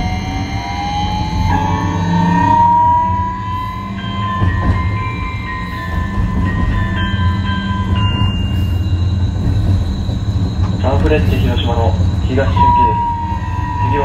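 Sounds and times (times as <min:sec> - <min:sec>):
tram motor whine: 0:00.0 - 0:14.0
wheels rumbling on rails: 0:00.0 - 0:14.0.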